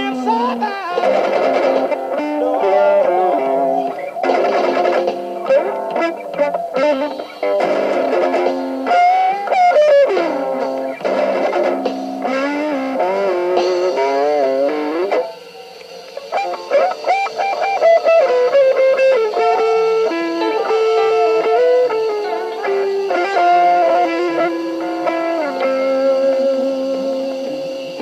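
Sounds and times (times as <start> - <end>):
electric guitar lead lines: 0.0 - 28.0.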